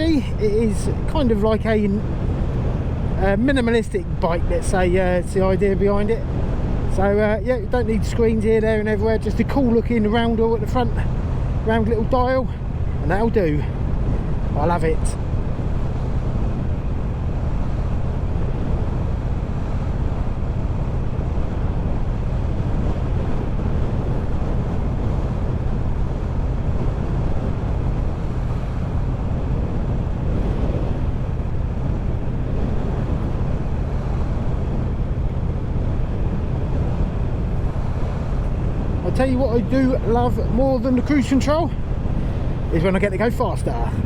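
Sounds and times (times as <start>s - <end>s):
wind noise on microphone: 0.0s - 44.0s.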